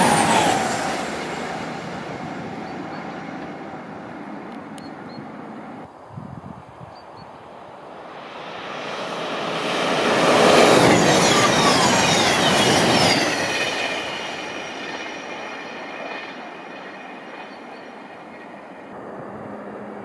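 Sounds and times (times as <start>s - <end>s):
diesel train passing at speed: 0.0s - 6.1s, 7.1s - 20.0s.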